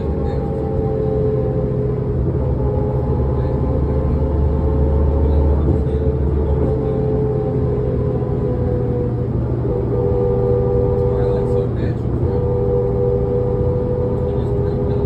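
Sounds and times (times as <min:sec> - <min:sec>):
bus diesel engine rumbling: 0:00.0 - 0:15.0
drivetrain whine: 0:00.0 - 0:15.0.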